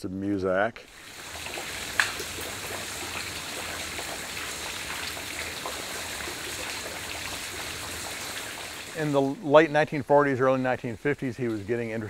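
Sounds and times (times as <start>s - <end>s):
water running over rocks: 0.9s - 12.0s.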